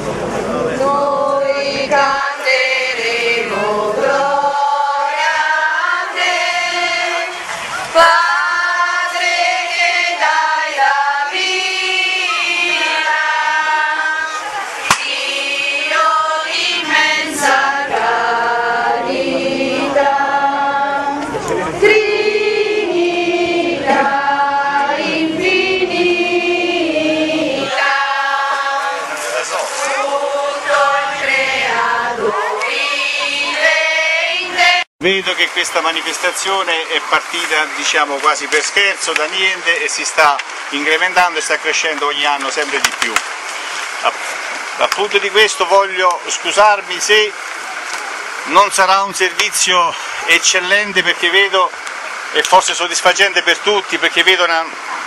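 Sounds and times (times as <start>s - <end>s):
voices singing together: 0.0s - 55.0s.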